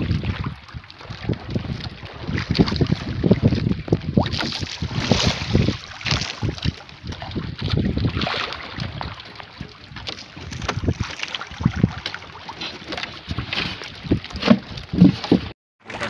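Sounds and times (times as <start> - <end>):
wind buffeting microphone: 0.0 - 12.5, 13.2 - 15.5
water lapping against boat: 0.0 - 16.0.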